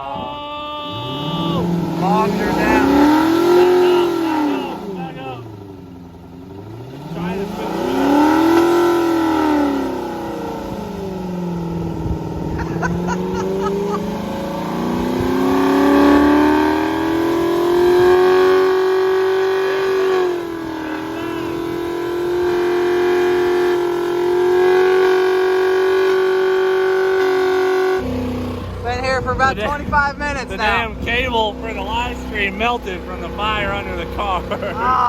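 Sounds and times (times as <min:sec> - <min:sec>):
car engine revving: 0:00.8 - 0:35.0.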